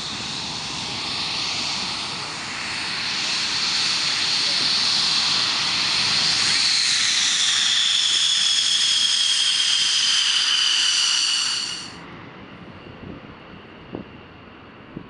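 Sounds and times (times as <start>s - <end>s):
jet engines roaring and whining: 0.0s - 15.0s.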